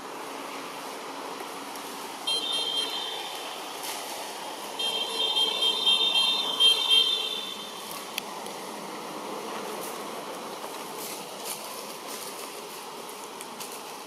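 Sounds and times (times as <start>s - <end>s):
forest ambience: 0.0s - 14.0s.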